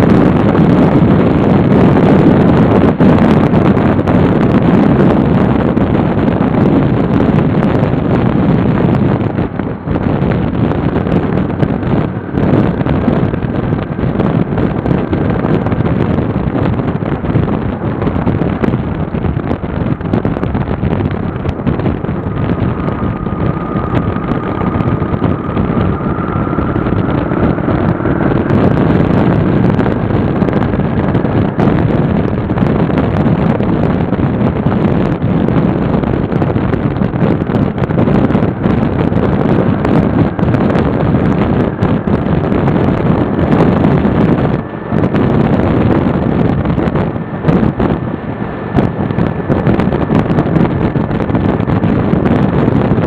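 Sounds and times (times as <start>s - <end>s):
motorcycle engine and road noise: 0.0s - 53.0s
wind rushing over microphone: 0.0s - 53.0s.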